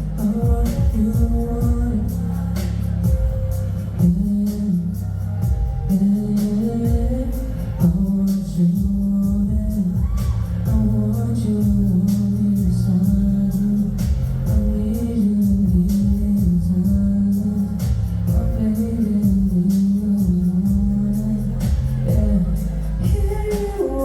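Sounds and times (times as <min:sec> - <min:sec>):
heavy bass: 0:00.0 - 0:24.0
live band with singing: 0:00.0 - 0:24.0
drum beat: 0:00.3 - 0:02.1, 0:02.9 - 0:04.5, 0:05.4 - 0:06.2, 0:06.8 - 0:08.1, 0:08.7 - 0:13.4, 0:14.0 - 0:17.2, 0:17.8 - 0:24.0.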